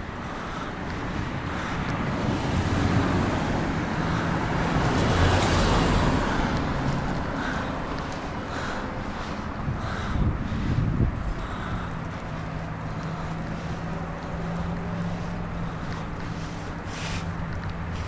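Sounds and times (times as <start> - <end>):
car passing by: 0.2 - 18.0
wind on microphone: 0.5 - 16.1.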